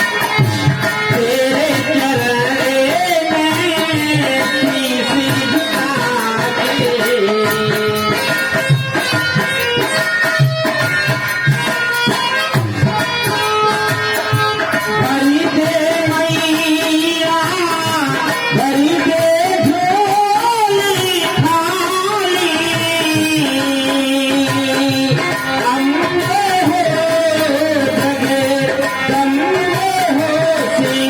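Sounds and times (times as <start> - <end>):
hand drum beating: 0.0 - 31.0.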